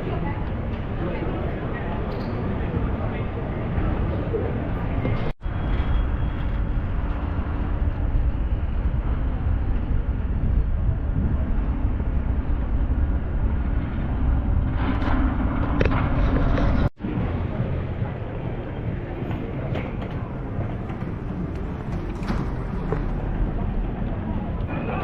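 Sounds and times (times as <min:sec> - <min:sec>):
vehicle rumbling in motion: 0:00.0 - 0:25.0.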